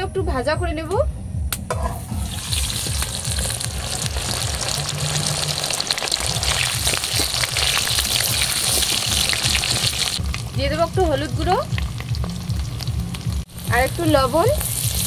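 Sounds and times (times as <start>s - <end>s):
oil sizzling and crackling: 1.9s - 15.0s.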